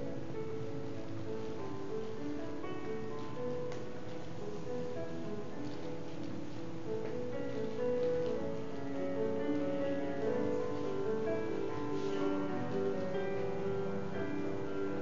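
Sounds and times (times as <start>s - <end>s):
slow instrumental music: 0.0s - 15.0s.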